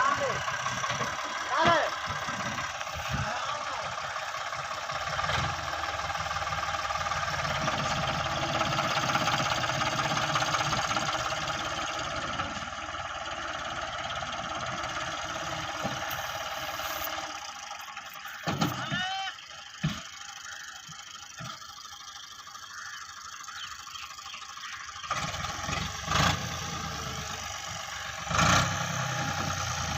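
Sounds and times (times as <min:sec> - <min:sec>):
tractor diesel engine pulsing: 0:00.0 - 0:29.9.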